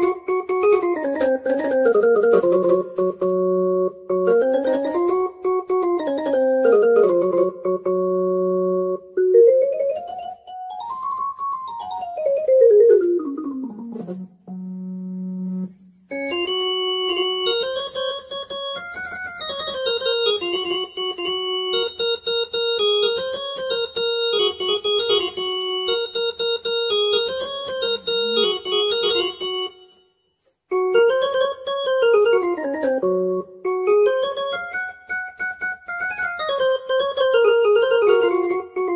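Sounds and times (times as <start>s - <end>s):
electronic keyboard playing: 0.0s - 38.9s.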